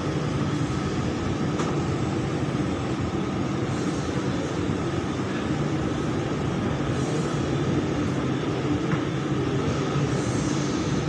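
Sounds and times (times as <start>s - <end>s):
train carriage rumble and hum: 0.0s - 11.0s.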